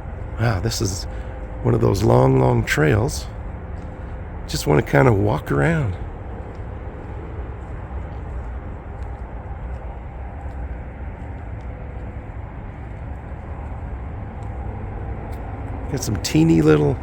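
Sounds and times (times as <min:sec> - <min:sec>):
freeway traffic rumble: 0:00.0 - 0:17.0.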